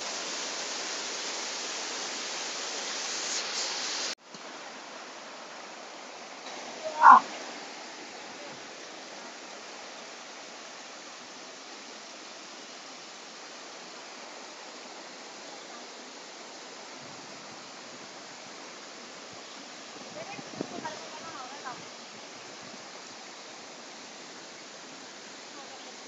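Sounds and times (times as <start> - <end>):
stream flowing over rocks: 0.0 - 26.0.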